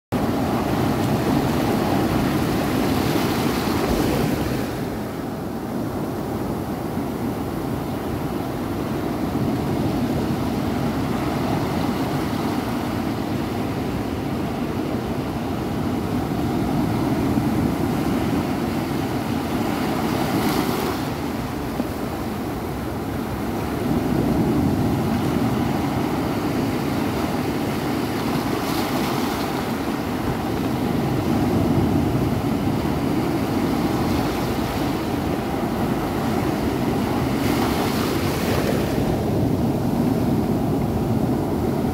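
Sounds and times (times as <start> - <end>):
ocean surf breaking: 0.2 - 41.9.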